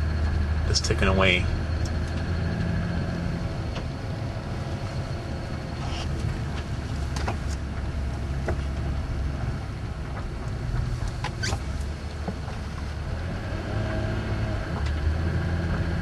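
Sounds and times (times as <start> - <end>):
car engine hum from inside: 0.0 - 16.0.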